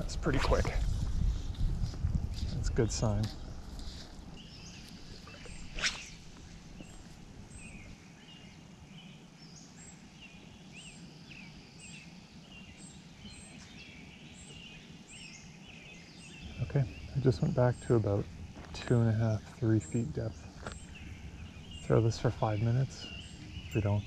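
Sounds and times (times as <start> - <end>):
faint steady background: 0.0 - 24.0
small birds chirping: 0.0 - 24.0.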